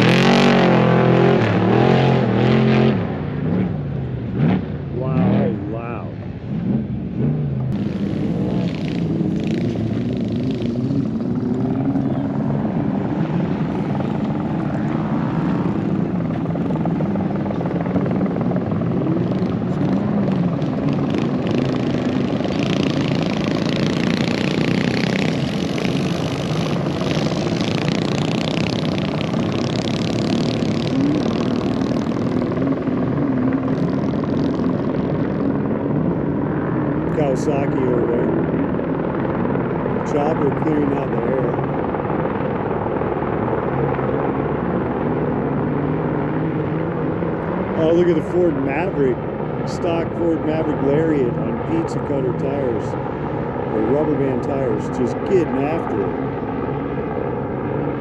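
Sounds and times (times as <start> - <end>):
vehicle engines driving past: 0.0 - 58.0.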